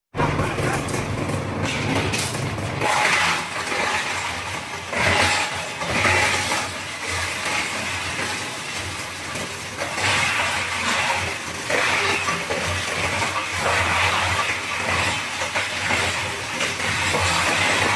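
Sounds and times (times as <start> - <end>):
bamboo crusher crushing bamboo: 0.2 - 17.9.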